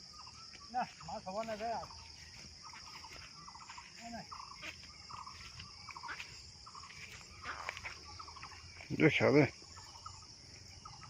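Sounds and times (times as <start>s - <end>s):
faint short insect calls: 0.0s - 11.0s
high-pitched insect drone: 0.0s - 11.0s.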